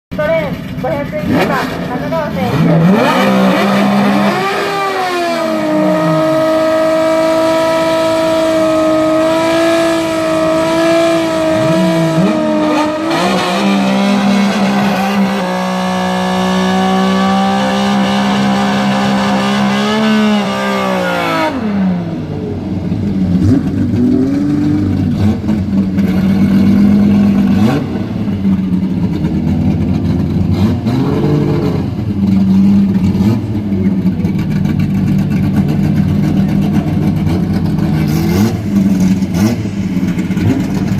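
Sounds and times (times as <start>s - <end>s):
drag car engine revving: 0.2s - 40.9s.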